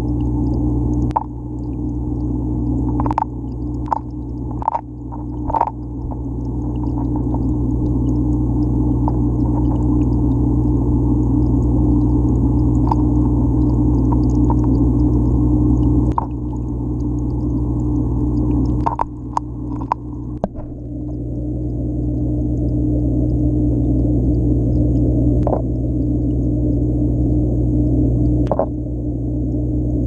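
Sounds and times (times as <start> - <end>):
aquarium equipment humming: 0.0 - 30.0.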